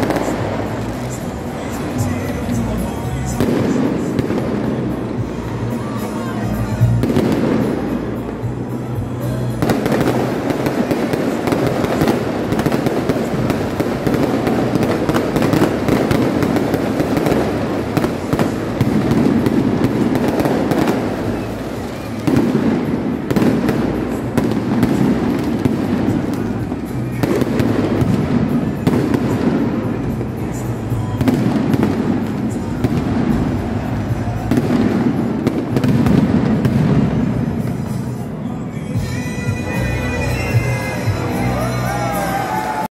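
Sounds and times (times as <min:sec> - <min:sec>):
fireworks bursting and crackling: 0:00.0 - 0:38.8
music playing: 0:00.0 - 0:42.9.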